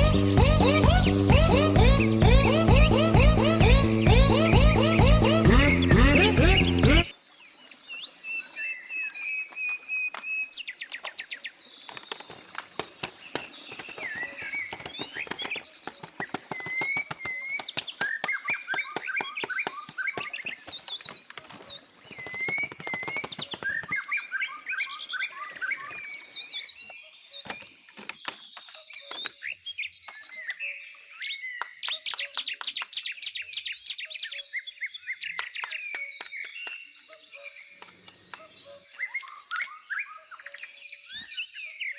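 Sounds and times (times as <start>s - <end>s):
birds chirping and twittering: 0.0s - 41.9s.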